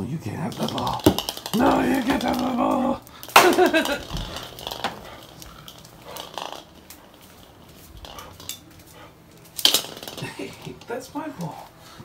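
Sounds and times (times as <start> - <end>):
dog claws clicking on tile: 0.4 - 12.0
dog scuffling on tile floor: 0.4 - 12.0.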